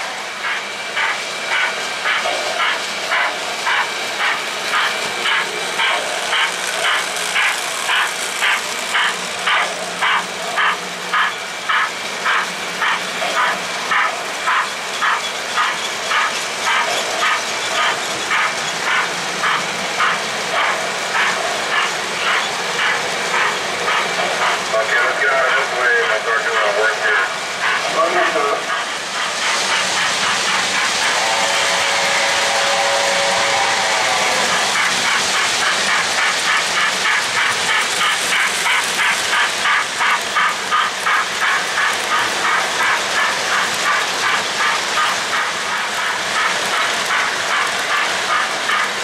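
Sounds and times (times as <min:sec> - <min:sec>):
model train running: 0:00.0 - 0:49.0.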